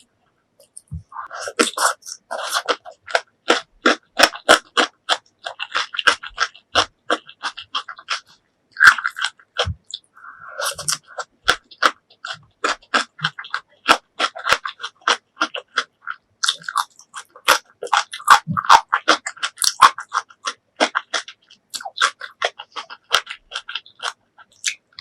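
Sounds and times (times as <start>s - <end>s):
person chewing with mouth smacks: 0.6s - 25.0s.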